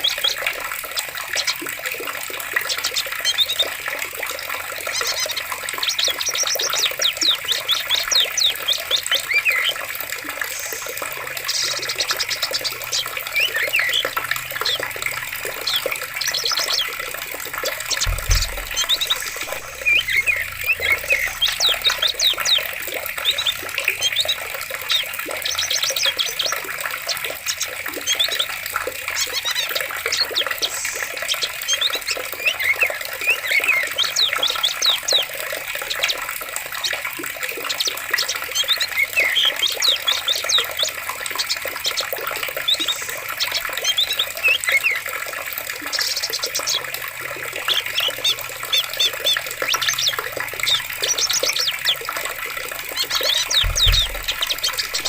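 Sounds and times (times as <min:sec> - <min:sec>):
flowing water: 0:00.0 - 0:55.0
small birds chirping: 0:00.0 - 0:55.0.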